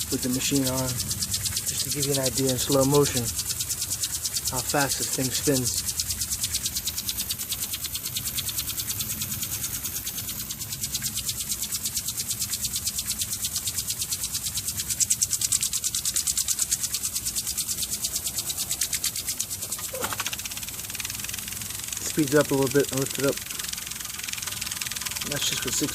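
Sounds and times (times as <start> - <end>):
spinning water jets hissing: 0.0 - 25.9.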